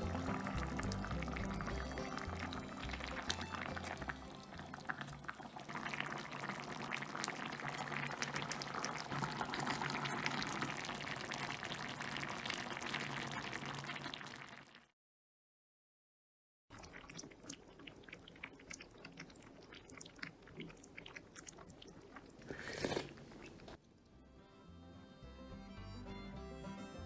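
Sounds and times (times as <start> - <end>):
stew bubbling in a pot: 0.0 - 14.9, 16.7 - 23.9.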